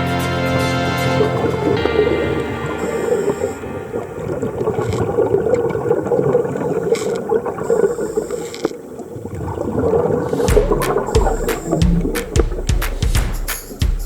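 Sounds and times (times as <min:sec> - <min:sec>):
water gurgling and bubbling underwater: 0:01.0 - 0:12.7.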